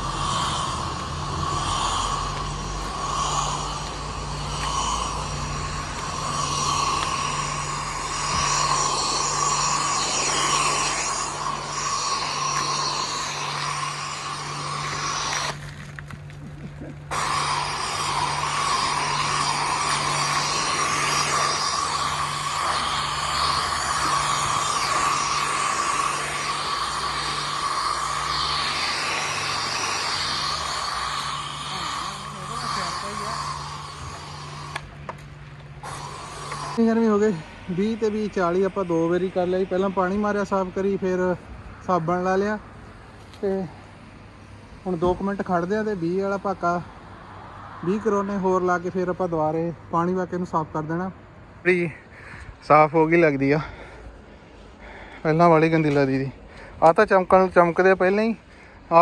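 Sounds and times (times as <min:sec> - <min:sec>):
high-pressure spray hissing: 0:00.0 - 0:42.6, 0:44.7 - 0:49.3, 0:51.7 - 0:59.0
pump hum: 0:00.0 - 0:48.5, 0:51.2 - 0:59.0.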